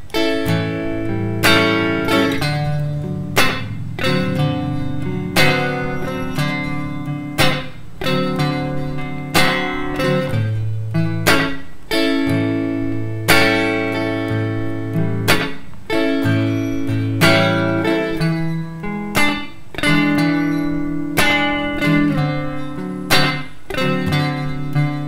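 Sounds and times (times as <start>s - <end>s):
guitar strumming blues chords: 0.0s - 25.0s.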